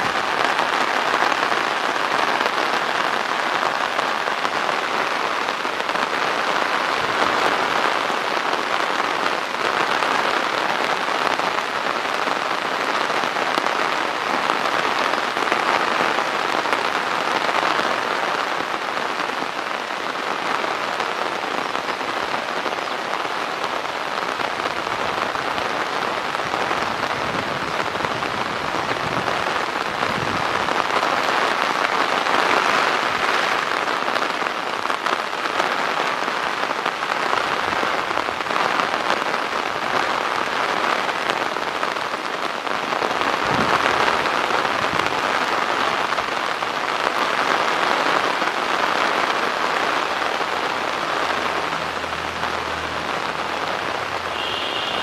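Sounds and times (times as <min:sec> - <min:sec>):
heavy rain falling on water: 0:00.0 - 0:55.0.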